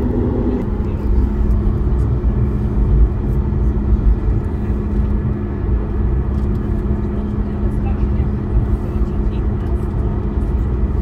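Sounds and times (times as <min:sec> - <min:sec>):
airliner rolling rumble: 0:00.0 - 0:11.0
jet engines humming: 0:00.0 - 0:11.0.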